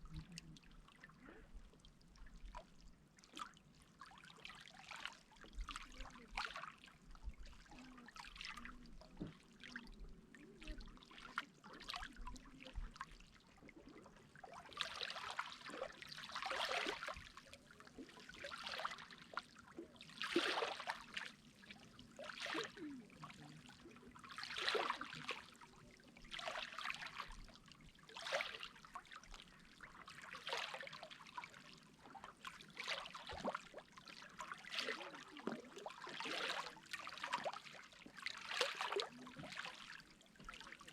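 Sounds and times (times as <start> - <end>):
small waves lapping on shore: 7.7 - 40.9.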